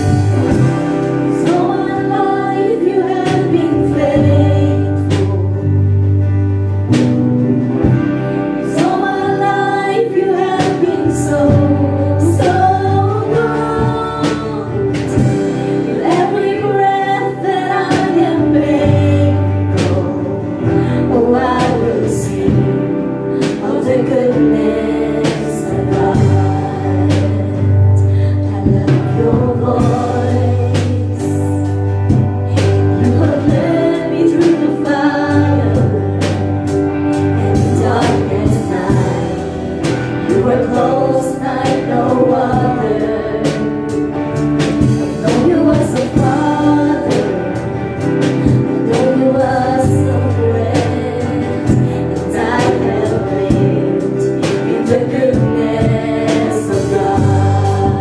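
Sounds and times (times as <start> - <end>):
group singing worship song: 0.0 - 58.0
held bass notes: 0.0 - 58.0.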